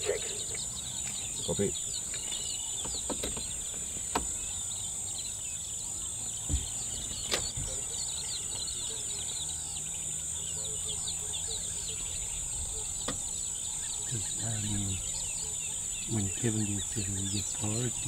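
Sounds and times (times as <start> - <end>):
bird chirps: 0.0 - 18.0
high insect drone: 0.0 - 18.0.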